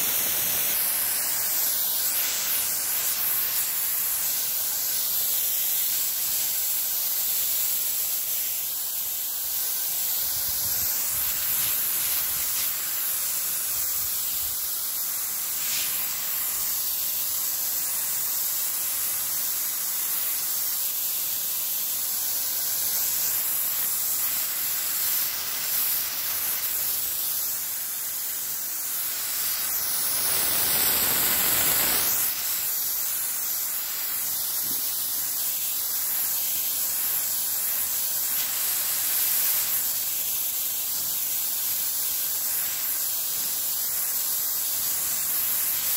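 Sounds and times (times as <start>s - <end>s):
water spraying from nozzle: 0.0s - 45.9s.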